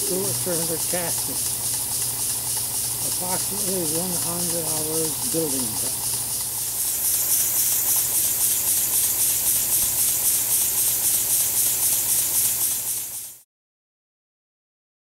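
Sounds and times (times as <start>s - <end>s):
model steam engine chuffing: 0.0s - 13.4s
valve gear rattling: 0.0s - 13.4s.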